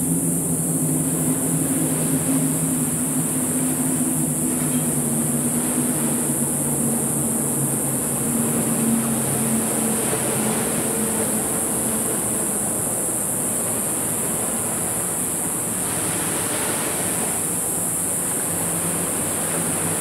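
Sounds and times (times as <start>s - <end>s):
waves washing on shore: 0.0s - 20.0s.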